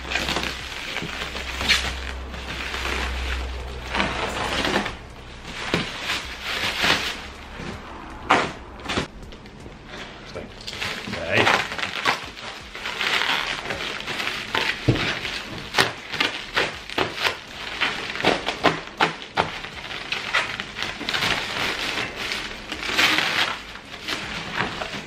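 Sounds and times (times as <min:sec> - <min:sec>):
bubble wrap rustling and crackling: 0:00.0 - 0:25.0.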